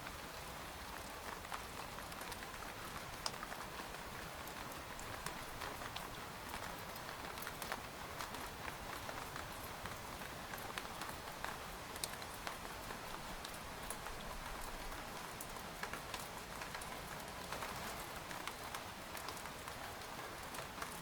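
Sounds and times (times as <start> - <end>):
rain pattering on a tent: 0.0 - 21.0.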